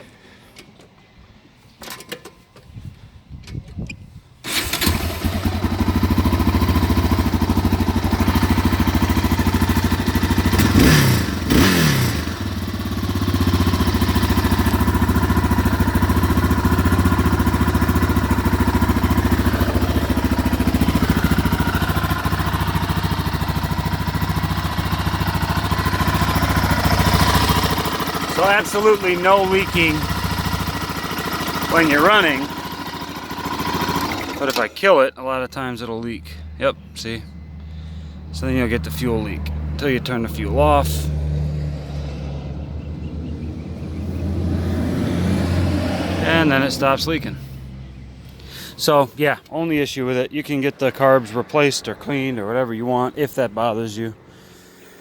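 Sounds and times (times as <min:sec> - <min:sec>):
engine throttle blips: 0:04.4 - 0:55.0
quad engine idling: 0:04.5 - 0:41.3, 0:42.2 - 0:55.0.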